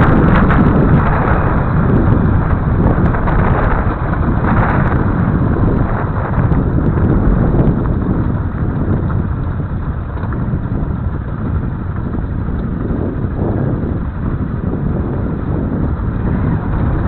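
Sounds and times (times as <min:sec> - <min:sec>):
motorcycle engine rumbling: 0:00.0 - 0:17.0
tyres on loose gravel: 0:00.0 - 0:17.0
wind on microphone: 0:00.0 - 0:17.0.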